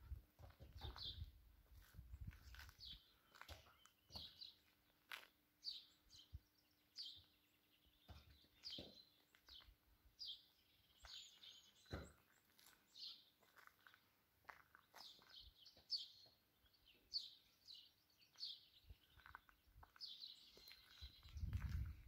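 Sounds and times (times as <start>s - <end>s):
small birds chirping: 0.5s - 22.0s.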